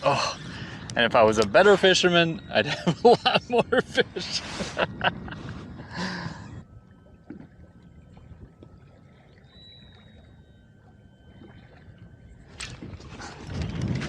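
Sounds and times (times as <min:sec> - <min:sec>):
faint thin steady tones: 0:00.0 - 0:13.4
water lapping against a hull: 0:00.0 - 0:14.0.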